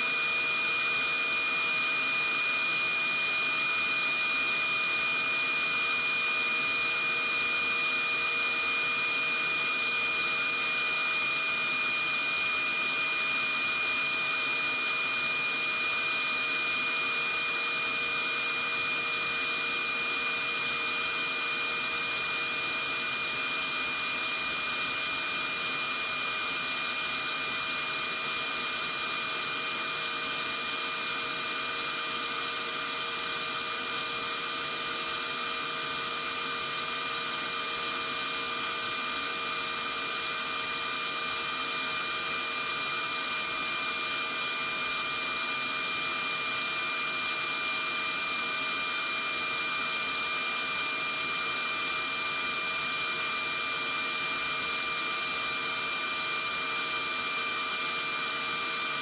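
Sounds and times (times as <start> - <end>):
vacuum cleaner motor running: 0.0 - 59.0.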